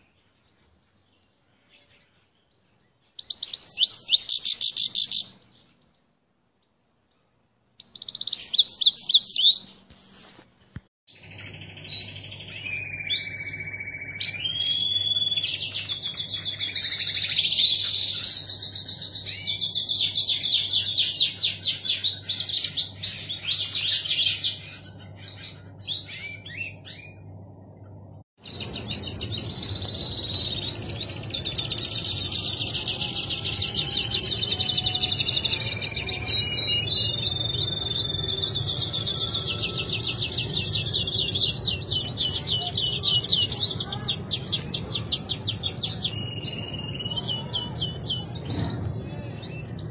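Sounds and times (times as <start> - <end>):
canaries singing trills: 0.0 - 6.1, 7.8 - 9.8, 11.1 - 49.9.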